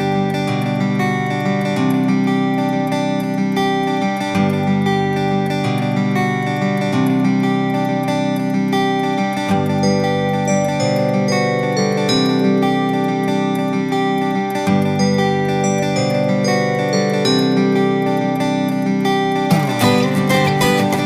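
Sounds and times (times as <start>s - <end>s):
acoustic guitar playing chords: 0.0s - 21.0s.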